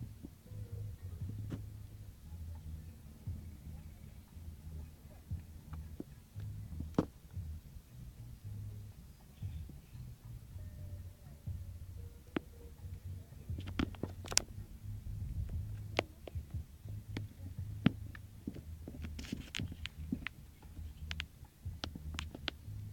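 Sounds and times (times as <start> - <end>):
low rumble on microphone: 0.0 - 22.9.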